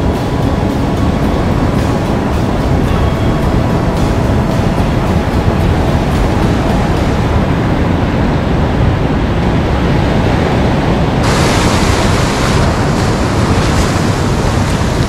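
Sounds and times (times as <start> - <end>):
waves washing over rocks: 0.0 - 15.0
wind buffeting microphone: 0.0 - 15.0.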